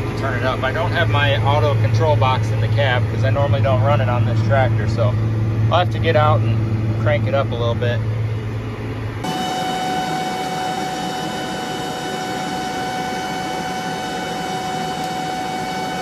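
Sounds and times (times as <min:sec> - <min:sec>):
steady machine whine: 0:00.0 - 0:16.0
tractor engine hum: 0:00.0 - 0:16.0.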